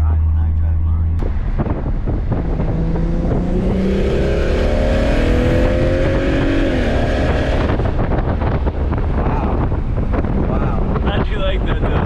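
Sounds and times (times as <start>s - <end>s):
car engine accelerating: 0.0s - 12.0s
road noise: 0.0s - 12.0s
wind noise: 0.3s - 12.0s.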